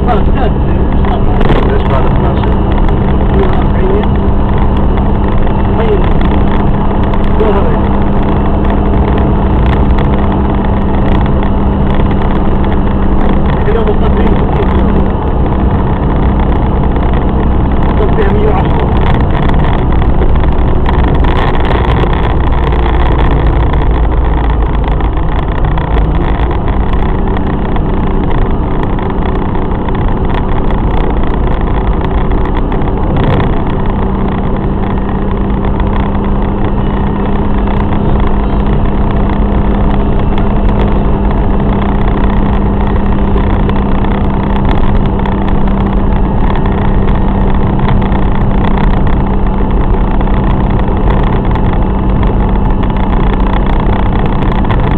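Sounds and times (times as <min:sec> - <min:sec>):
car engine running: 0:00.0 - 0:54.9
road noise: 0:00.0 - 0:54.9.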